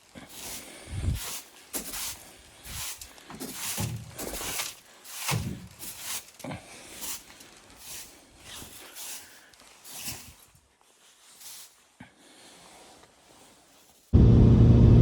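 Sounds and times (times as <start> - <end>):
footsteps crunching in snow: 0.0 - 14.1.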